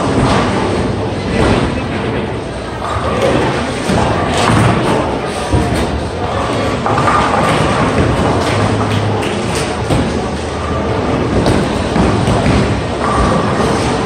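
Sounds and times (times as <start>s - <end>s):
bowling balls rolling down lanes: 0.0s - 14.0s.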